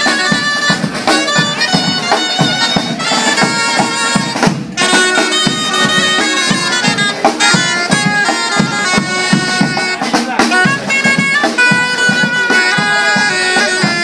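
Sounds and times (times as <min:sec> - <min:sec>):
shawms playing reedy melody: 0:00.0 - 0:14.0
snare and bass drum beats: 0:00.0 - 0:14.0.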